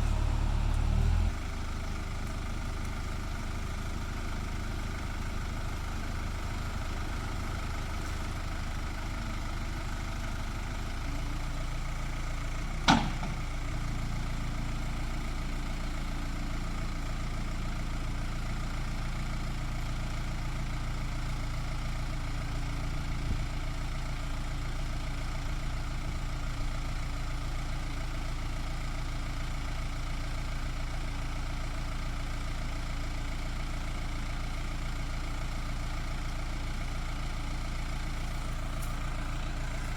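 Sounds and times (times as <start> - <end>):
backhoe loader engine running: 0.0 - 39.9.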